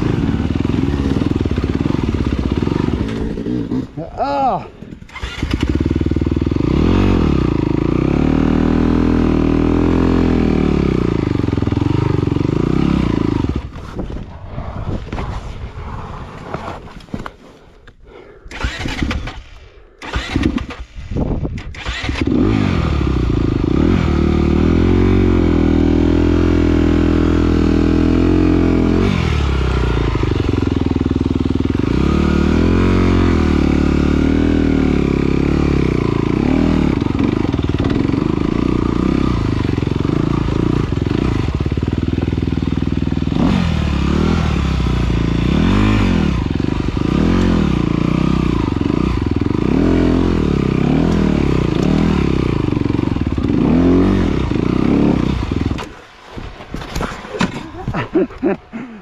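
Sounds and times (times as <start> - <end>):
dirt bike engine revving: 0.0 - 14.3, 18.5 - 21.0, 21.6 - 56.1.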